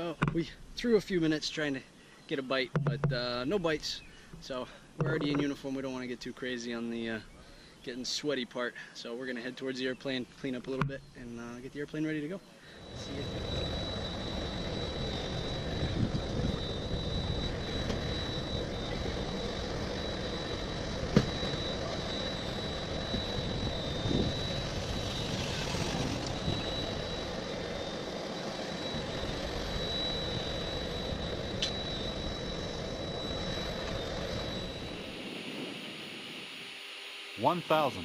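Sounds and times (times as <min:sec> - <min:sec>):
high-pitched whine: 0:00.0 - 0:08.4, 0:09.0 - 0:38.0
jet engine and airflow noise: 0:00.0 - 0:38.0.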